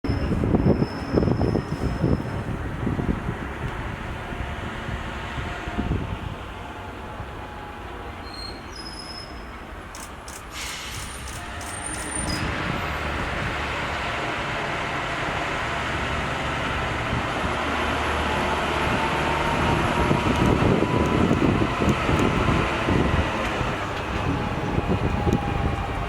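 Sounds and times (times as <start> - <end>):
railway car rumble and wheel noise: 0.0 - 26.0.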